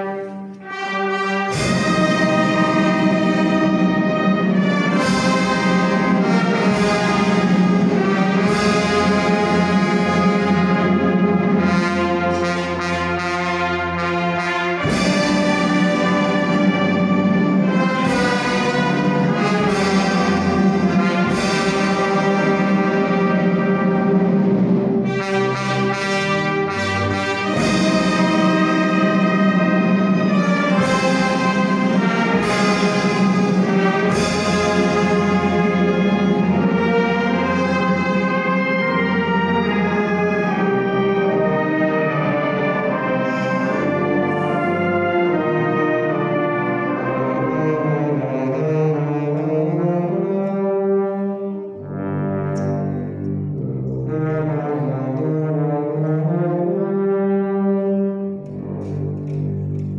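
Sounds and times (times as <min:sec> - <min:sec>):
wind band playing funeral march: 0:00.0 - 0:59.9.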